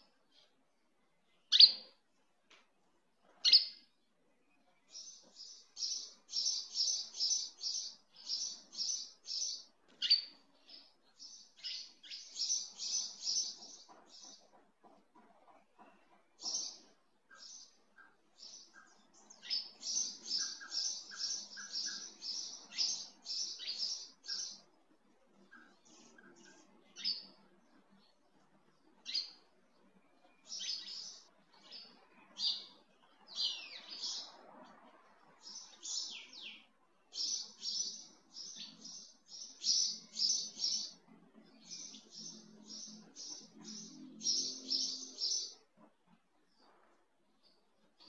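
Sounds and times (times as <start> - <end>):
small bird chirping: 0.0 - 2.6, 3.2 - 48.0.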